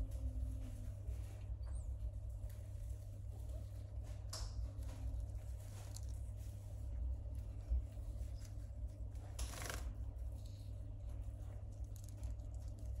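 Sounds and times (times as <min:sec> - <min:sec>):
parrot preening feathers rustling: 0:00.2 - 0:12.6.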